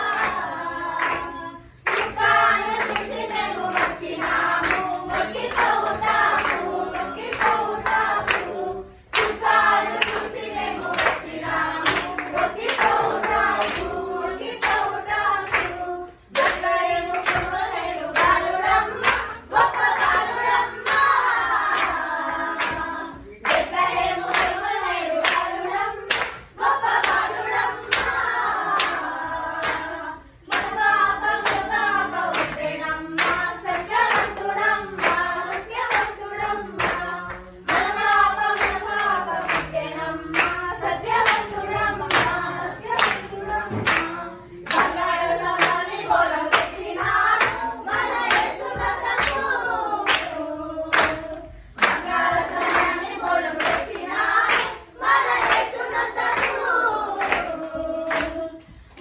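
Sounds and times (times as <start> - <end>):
hands clapping: 0.0 - 59.0
young voices singing a carol: 0.0 - 59.0.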